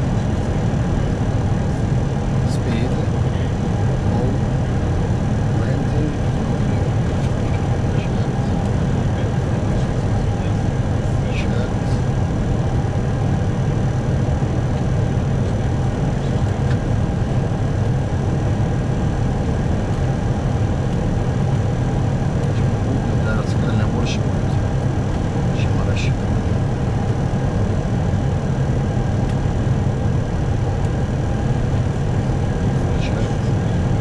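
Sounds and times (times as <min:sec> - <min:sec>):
cockpit engine and airflow drone: 0:00.0 - 0:34.0.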